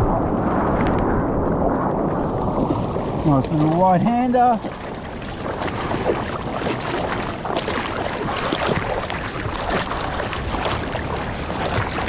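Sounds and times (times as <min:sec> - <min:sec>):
water splashing around surfboard: 0:00.0 - 0:12.0
wind on microphone: 0:00.0 - 0:12.0.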